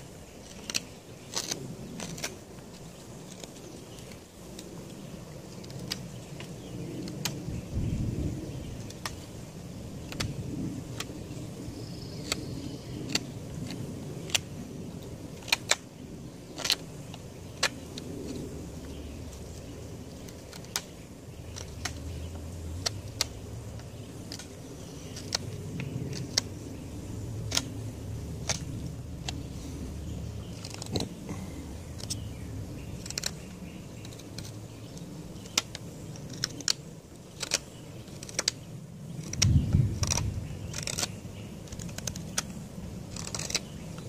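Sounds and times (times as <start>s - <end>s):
steady low rumble: 0.0s - 44.0s
knife whittling bamboo clicks: 0.4s - 4.7s, 5.5s - 7.5s, 10.0s - 11.2s, 12.2s - 26.7s, 27.3s - 29.5s, 32.8s - 44.0s.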